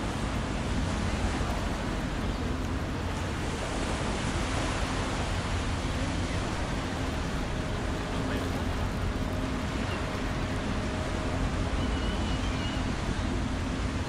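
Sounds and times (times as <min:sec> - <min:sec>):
river water rushing: 0:00.0 - 0:14.0
ship low hum: 0:00.0 - 0:14.0
wind: 0:00.0 - 0:14.0.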